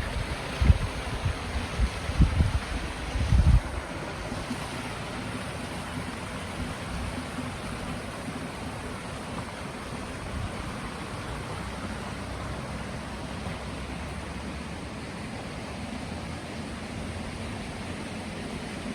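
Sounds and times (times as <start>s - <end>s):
water rushing: 0.0s - 18.9s.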